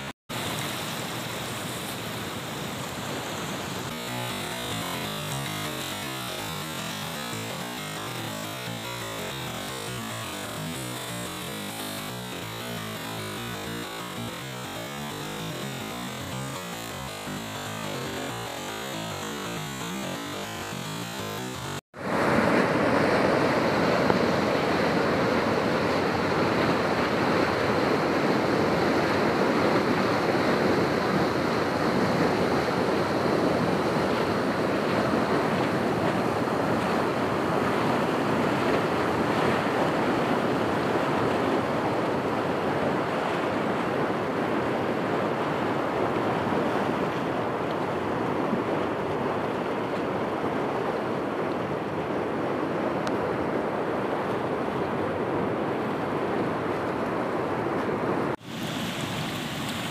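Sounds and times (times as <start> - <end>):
water gushing and rushing: 0.0 - 52.4.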